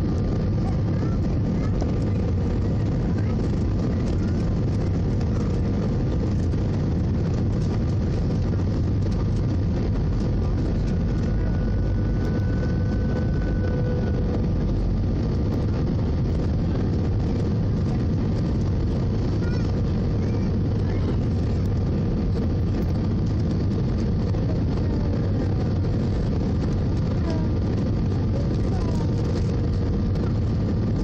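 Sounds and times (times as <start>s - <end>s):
faint steady whines: 0.0s - 31.0s
jet engine cabin roar: 0.0s - 31.0s
rushing airflow: 0.0s - 31.0s.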